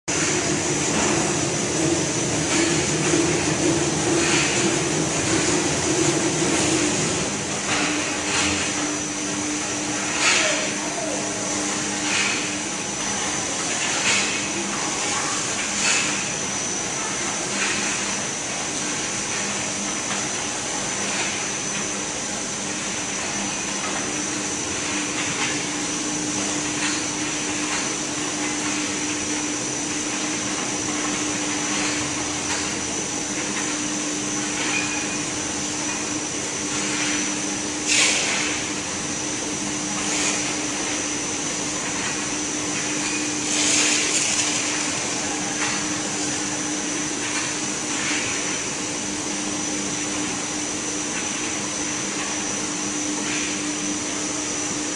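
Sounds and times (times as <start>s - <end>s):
machine drone with high whine: 0.1s - 54.9s.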